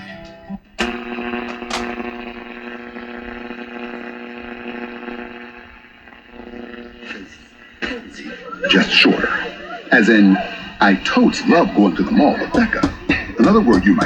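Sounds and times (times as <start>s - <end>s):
radio pitched tone: 0.8s - 14.0s.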